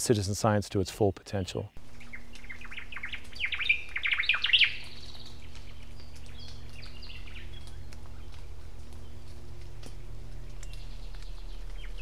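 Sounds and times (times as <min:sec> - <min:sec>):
steady low hum: 0:01.8 - 0:12.0.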